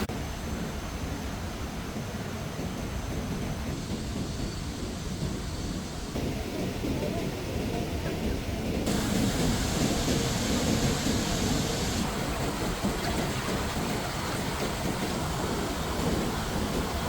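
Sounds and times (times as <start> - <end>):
rushing floodwater roar: 0.0 - 17.0.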